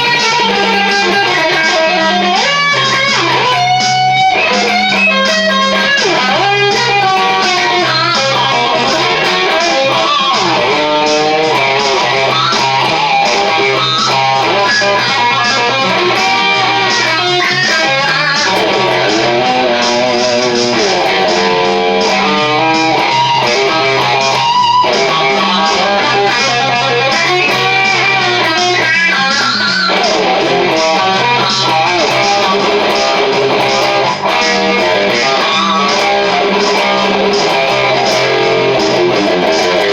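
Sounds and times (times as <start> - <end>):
bass line: 0.0 - 39.9
drums: 0.0 - 39.9
electric guitar lead: 0.0 - 39.9.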